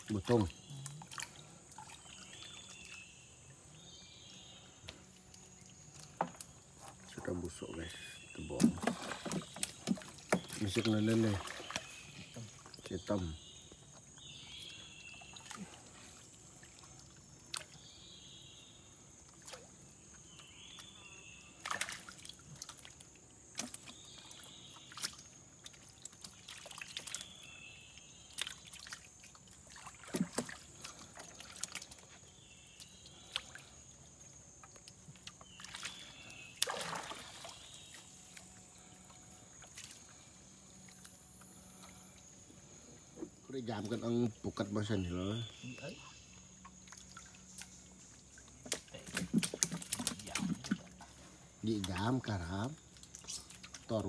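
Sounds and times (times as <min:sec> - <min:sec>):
water splashes: 0:00.0 - 0:03.1, 0:05.0 - 0:14.1, 0:15.0 - 0:17.9, 0:19.2 - 0:54.0
water sloshing and trickling: 0:00.0 - 0:54.0.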